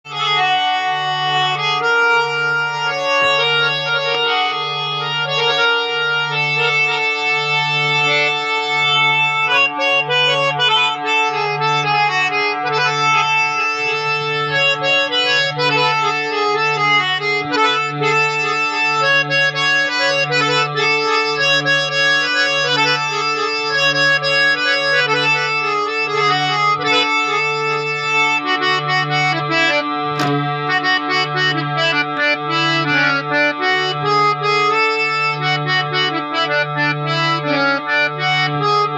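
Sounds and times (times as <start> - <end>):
harmonium melody: 0.0 - 38.9.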